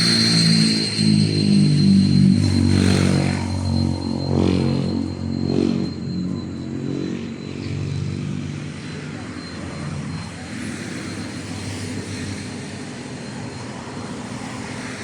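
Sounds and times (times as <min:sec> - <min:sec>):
steady high-pitched tone: 0:00.0 - 0:15.0.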